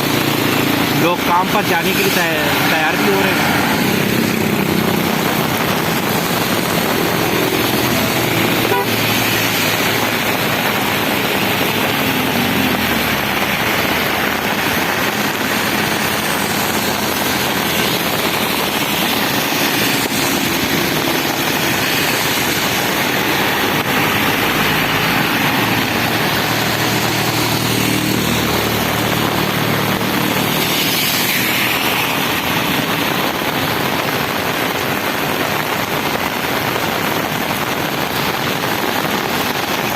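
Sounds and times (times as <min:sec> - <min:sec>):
rain and wet tyres hissing: 0:00.0 - 0:39.9
vehicles passing: 0:00.0 - 0:39.9.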